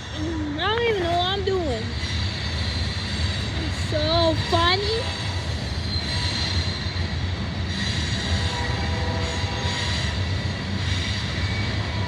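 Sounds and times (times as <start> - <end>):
freight train rumbling on rails: 0.0 - 12.0
high squeal of train wheels: 0.0 - 12.0.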